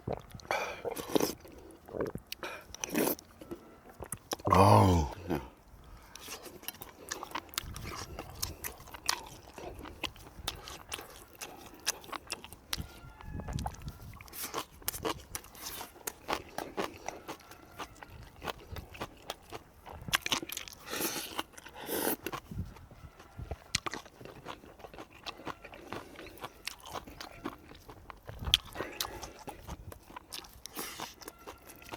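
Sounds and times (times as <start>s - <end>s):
person chewing crunchy food: 0.0s - 31.9s.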